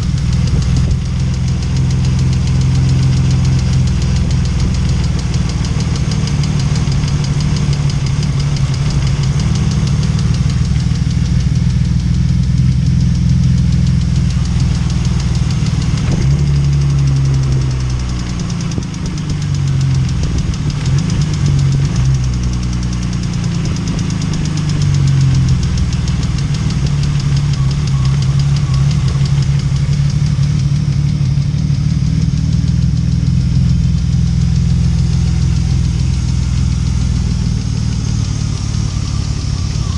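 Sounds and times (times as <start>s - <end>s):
car engine idling: 0.0s - 39.9s
lifter ticking: 0.0s - 39.9s.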